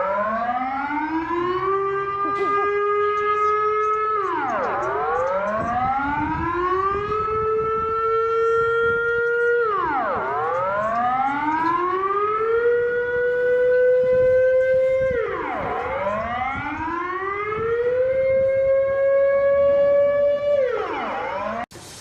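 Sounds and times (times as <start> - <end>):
warning siren wailing: 0.0 - 21.7.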